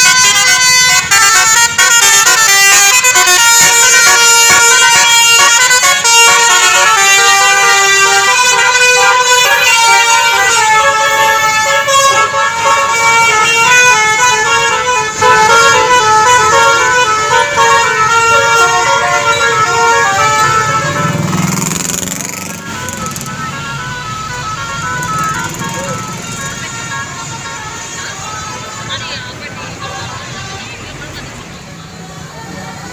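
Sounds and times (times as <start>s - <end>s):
musical bus horn melody: 0.0s - 30.8s.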